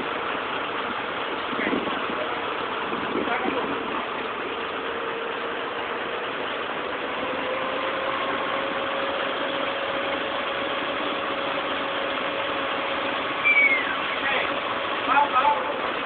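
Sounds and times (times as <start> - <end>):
drilling rig running: 0.0 - 16.0.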